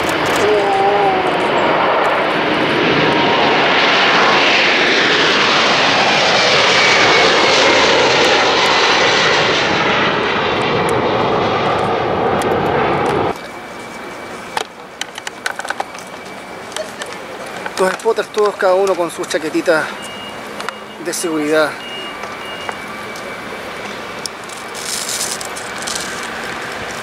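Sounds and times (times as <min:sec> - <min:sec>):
jet engines roaring: 0:00.0 - 0:27.0.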